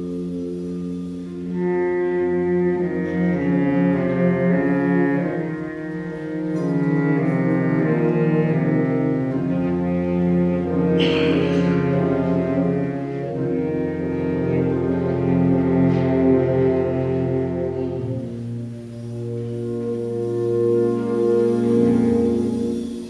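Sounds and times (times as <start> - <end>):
wind band playing chords: 0.0 - 23.0.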